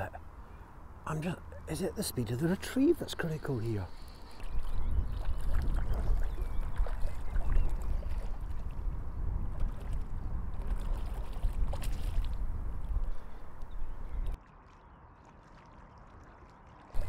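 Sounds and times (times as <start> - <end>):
small waves lapping: 0.0 - 17.0.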